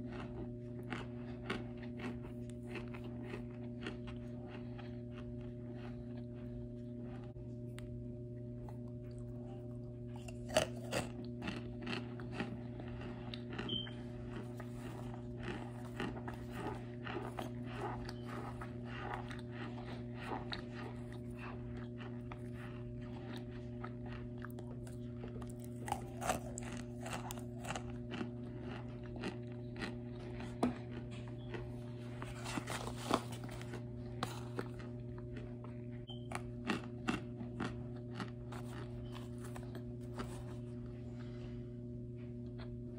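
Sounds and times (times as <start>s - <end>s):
chewing crisp crunches: 0.0s - 41.5s
steady low hum: 0.0s - 42.9s.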